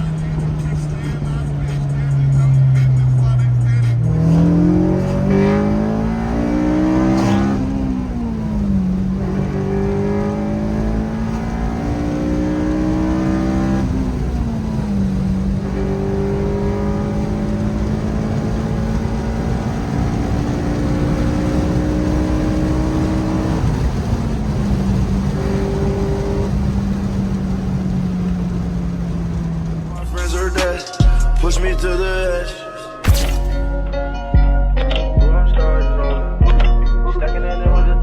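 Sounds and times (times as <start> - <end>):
car engine revving through gears: 0.0 - 30.7.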